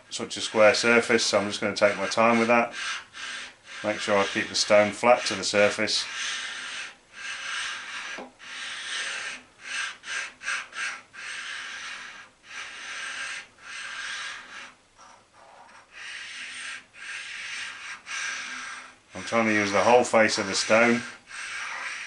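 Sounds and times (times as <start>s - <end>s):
oil stone scraping on metal: 0.1s - 22.0s.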